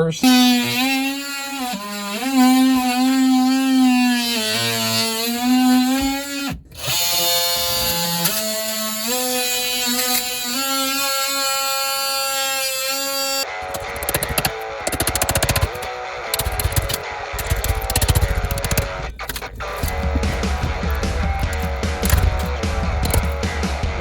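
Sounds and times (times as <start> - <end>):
power tool motor whine: 0.2 - 24.0.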